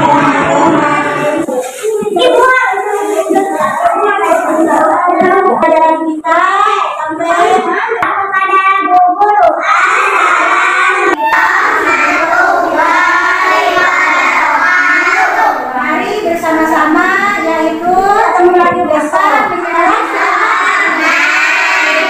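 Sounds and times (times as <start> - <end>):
young children singing: 0.0 - 5.7, 8.9 - 22.0.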